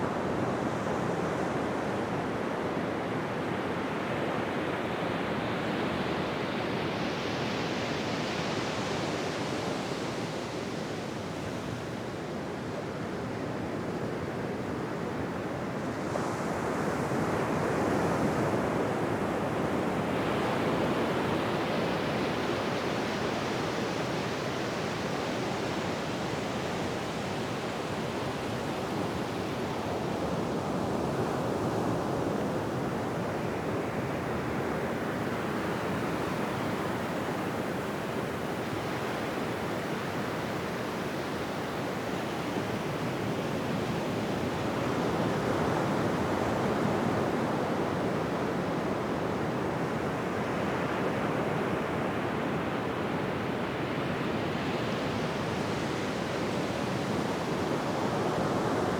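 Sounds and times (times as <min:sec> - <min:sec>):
ocean waves on a beach: 0:00.0 - 0:58.9.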